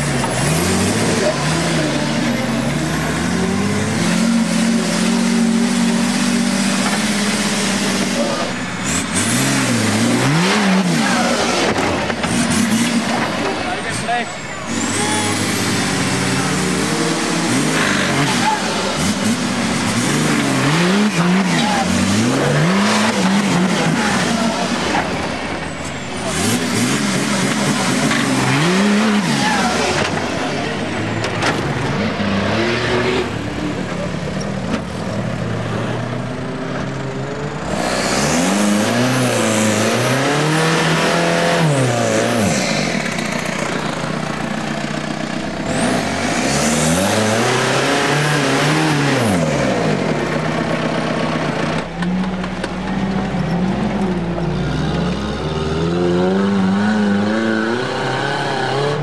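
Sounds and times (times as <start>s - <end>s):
off-road engines revving hard: 0.0s - 59.0s.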